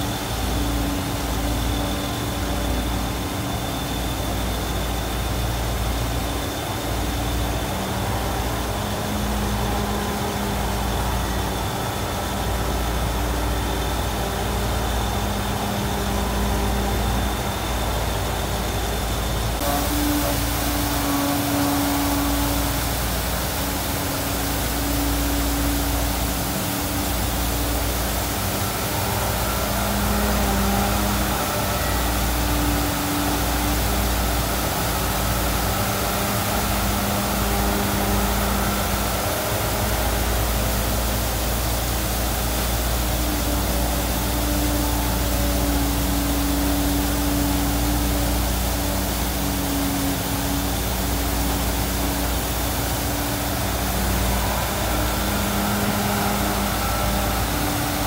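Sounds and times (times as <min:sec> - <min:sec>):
pump and excavator engines: 0:00.0 - 0:58.0.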